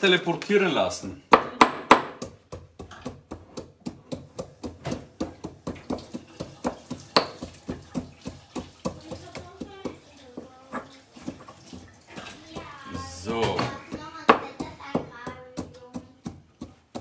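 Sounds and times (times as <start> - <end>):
pestle pounding in mortar: 1.3 - 17.0.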